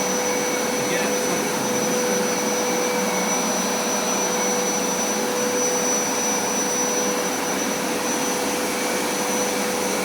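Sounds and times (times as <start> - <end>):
carpet cleaner motor whine: 0.0 - 10.0.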